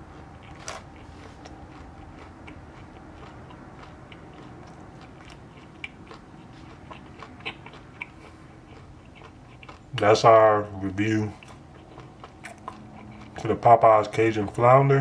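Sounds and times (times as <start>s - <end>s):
man chewing crunchy food: 0.0s - 15.0s.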